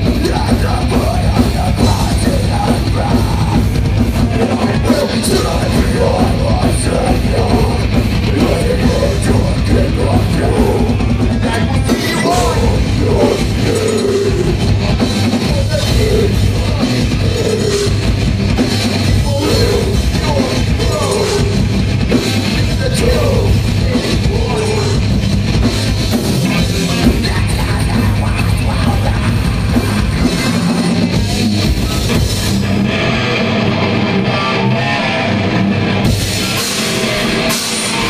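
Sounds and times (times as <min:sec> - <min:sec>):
distorted electric guitars: 0:00.0 - 0:38.0
pounding drum kit: 0:00.0 - 0:38.0.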